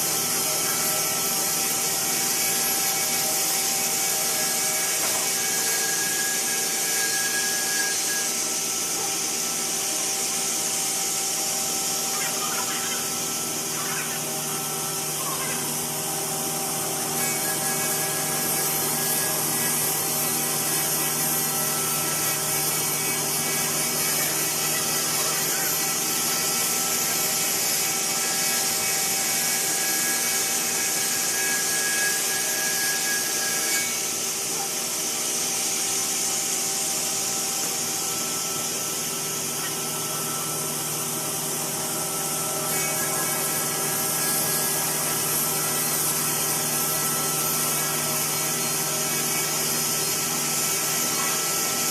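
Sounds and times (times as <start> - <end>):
machine spindle whine: 0.0 - 51.9
wood cutting hiss: 0.0 - 51.9.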